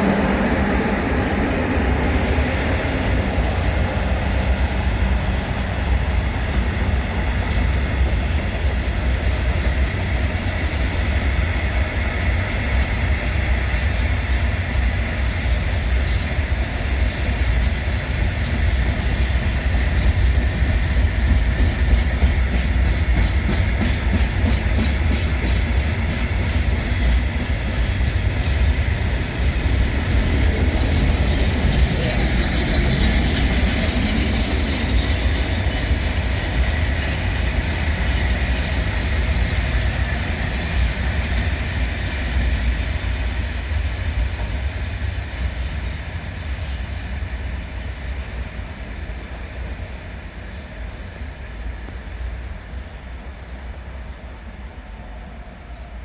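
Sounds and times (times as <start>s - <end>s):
train wheels clattering over rail joints: 0.0s - 47.6s
heavy train rumble: 0.0s - 56.0s.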